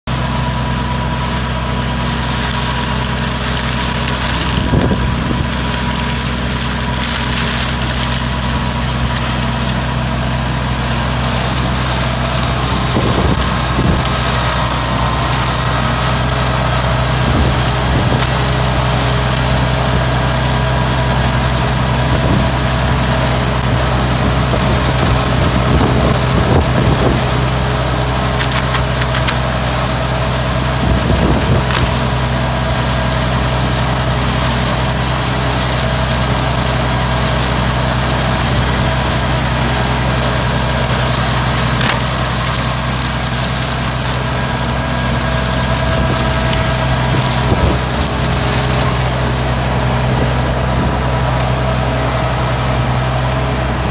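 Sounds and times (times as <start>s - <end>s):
tractor diesel engine under load: 0.0s - 53.9s
flail mower chopping grass: 0.1s - 53.9s.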